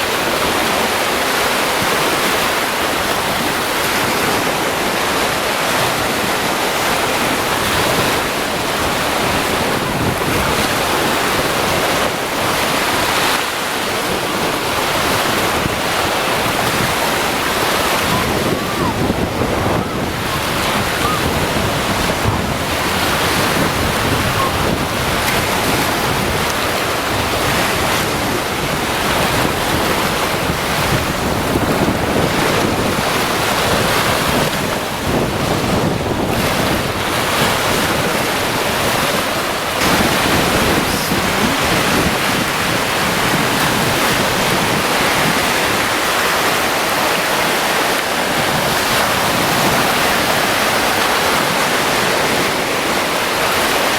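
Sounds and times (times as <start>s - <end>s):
surf washing onto shore: 0.0s - 53.9s
wind buffeting microphone: 1.8s - 53.9s.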